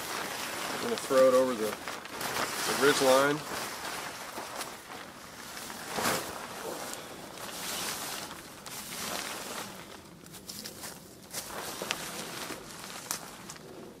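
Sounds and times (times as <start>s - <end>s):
tarp fabric rustling and swishing: 0.0s - 13.9s.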